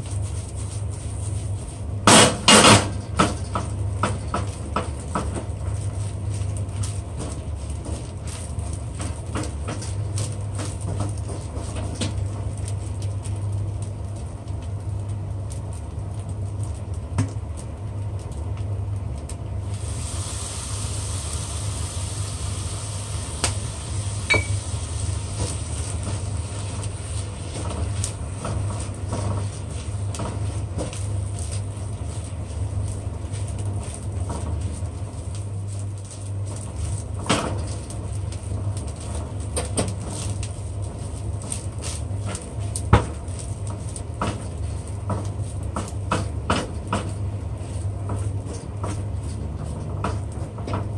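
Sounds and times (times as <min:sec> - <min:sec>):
sizzling hiss: 0:00.0 - 0:13.4, 0:19.6 - 0:49.6.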